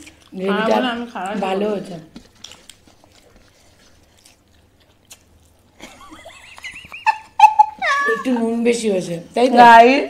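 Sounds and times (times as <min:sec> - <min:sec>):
faint chewing: 0:00.0 - 0:08.4.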